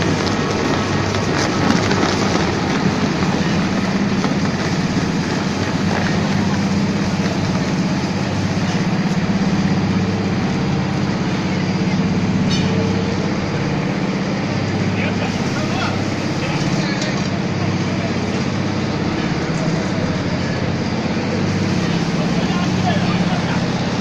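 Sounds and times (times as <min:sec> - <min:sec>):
industrial shredder droning: 0:00.0 - 0:24.0.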